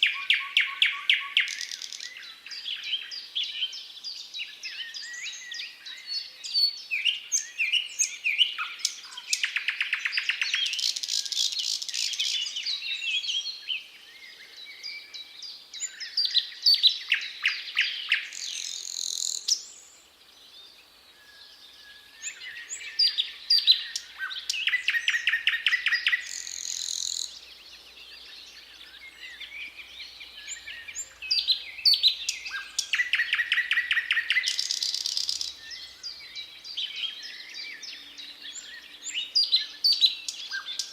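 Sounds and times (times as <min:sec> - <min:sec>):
thrush nightingale singing: 0:00.0 - 0:40.9.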